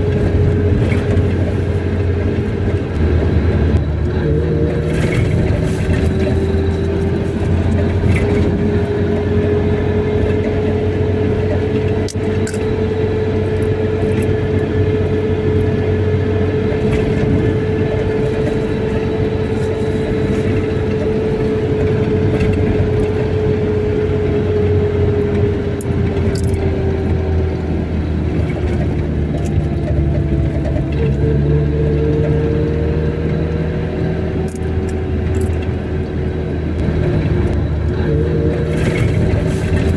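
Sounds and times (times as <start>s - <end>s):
car engine and road rumble: 0.0s - 39.9s
steady whine: 0.0s - 39.9s.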